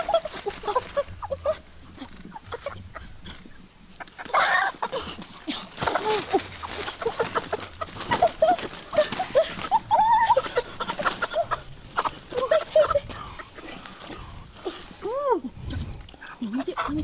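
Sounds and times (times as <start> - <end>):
chickens squawking: 0.0 - 17.0
dry leaves rustling: 0.0 - 17.0
wings flapping: 0.0 - 17.0.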